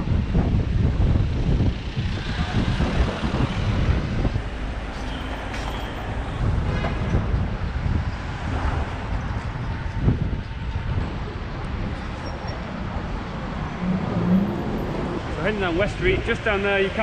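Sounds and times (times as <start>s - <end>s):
street traffic: 0.0s - 17.0s
wind rushing over microphone: 0.0s - 17.0s.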